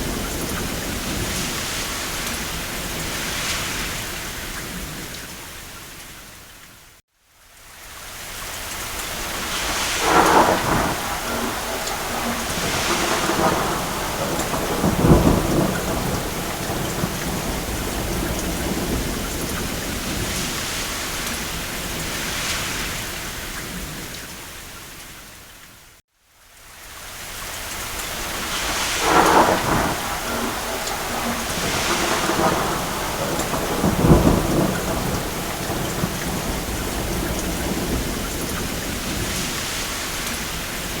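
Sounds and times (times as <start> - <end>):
thunder rolling: 0.0 - 5.3, 9.1 - 24.2, 28.1 - 41.0
heavy rain: 0.0 - 41.0.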